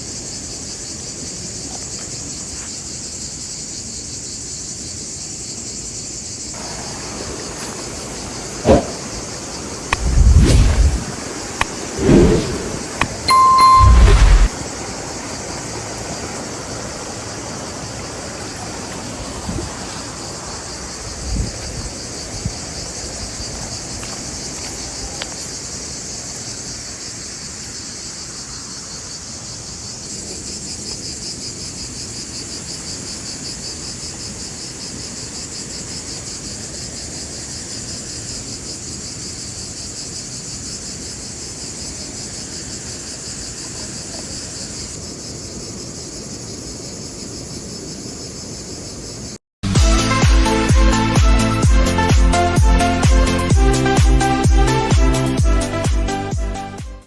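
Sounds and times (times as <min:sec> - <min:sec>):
insects trilling: 0:00.0 - 0:49.4, 0:50.4 - 0:56.3.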